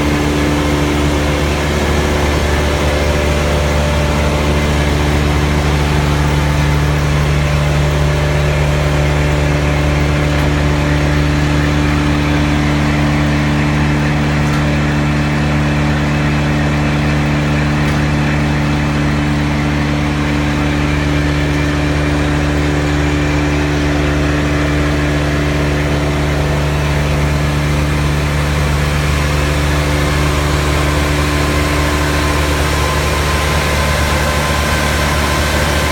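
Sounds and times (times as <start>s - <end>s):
diesel chipper engine droning: 0.0s - 35.9s.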